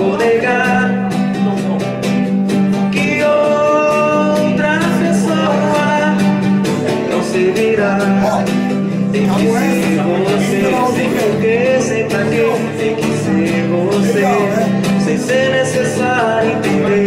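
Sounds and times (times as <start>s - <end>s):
man singing: 0.0s - 2.0s, 2.7s - 17.0s
strummed nylon-string guitar: 0.0s - 17.0s.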